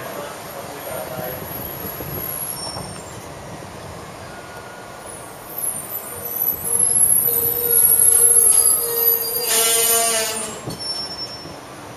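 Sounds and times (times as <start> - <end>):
train rumble: 0.0 - 11.9
electric train whine: 1.5 - 11.9.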